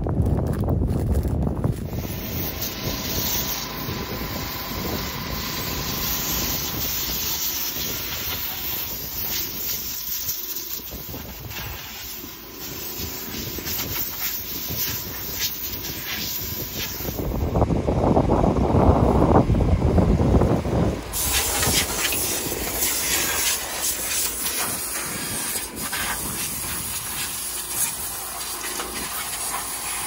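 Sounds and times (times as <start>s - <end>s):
steady low rumble: 0.0s - 30.0s
compressed air hissing blasts: 1.8s - 17.5s, 21.0s - 30.0s.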